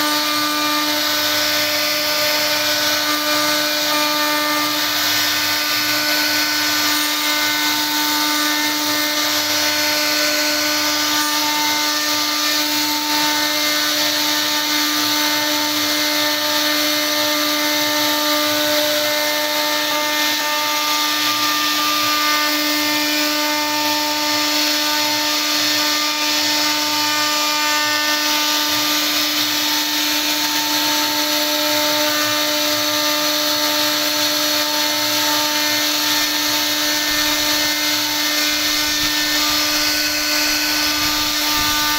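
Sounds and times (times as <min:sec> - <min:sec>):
router spindle running: 0:00.0 - 0:41.9.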